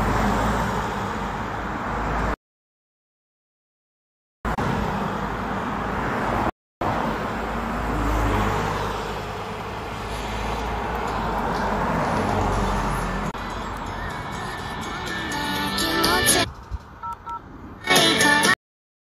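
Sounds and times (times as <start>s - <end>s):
road traffic rumble and hiss: 0.0s - 2.4s, 4.5s - 18.5s.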